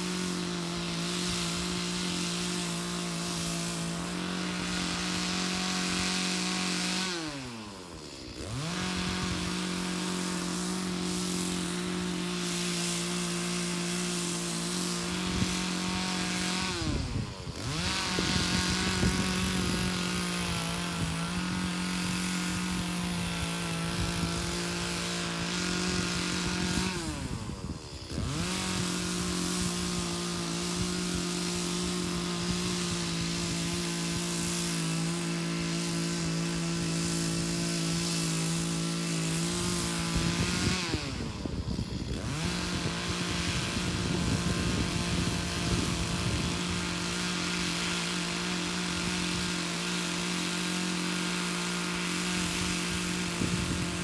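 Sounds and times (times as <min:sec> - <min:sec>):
chainsaw cutting logs: 0:00.0 - 0:54.0.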